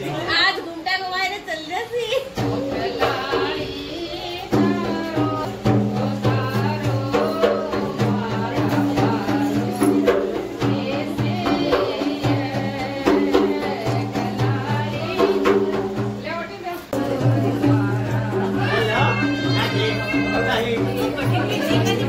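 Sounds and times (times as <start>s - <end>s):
percussion strokes: 2.2s - 22.0s
person singing: 2.3s - 16.0s, 17.0s - 22.0s.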